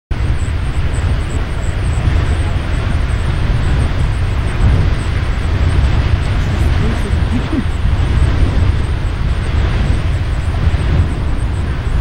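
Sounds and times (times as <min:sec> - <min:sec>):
wind buffeting microphone: 0:00.1 - 0:12.0
geyser water jet rushing: 0:00.2 - 0:12.0.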